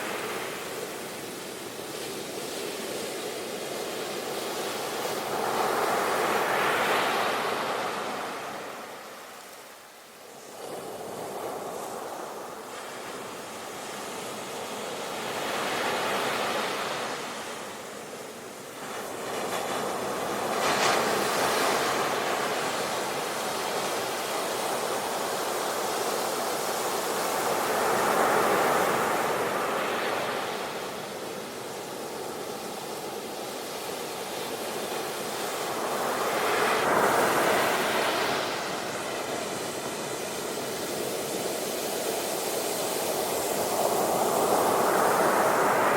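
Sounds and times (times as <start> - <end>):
ocean waves breaking on shore: 0.0 - 45.9.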